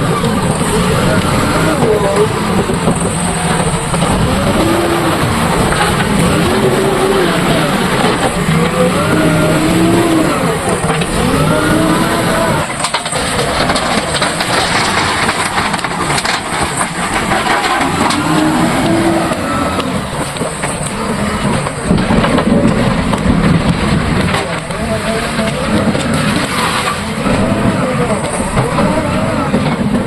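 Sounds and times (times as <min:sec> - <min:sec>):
heavy noise: 0:00.0 - 0:30.0
motor engine revving: 0:00.0 - 0:30.0.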